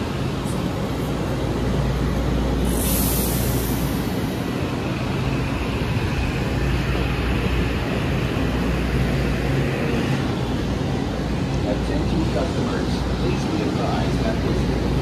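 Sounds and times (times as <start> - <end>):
steady low hum: 0.0 - 15.0
train rumbling: 0.0 - 15.0.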